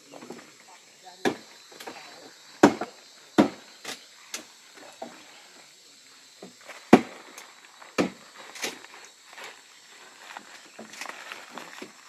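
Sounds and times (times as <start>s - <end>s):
faint insect drone: 0.0s - 12.0s.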